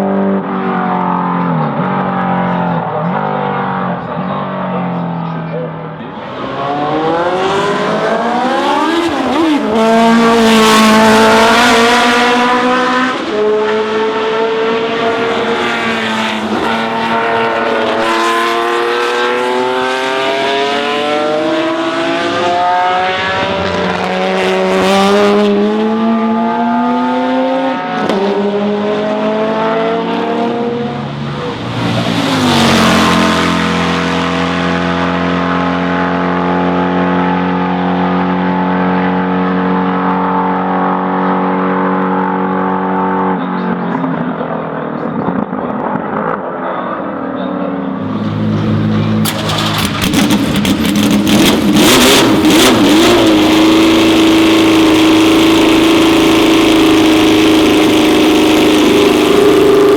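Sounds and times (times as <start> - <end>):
racing car engine at full throttle: 0.0 - 59.9.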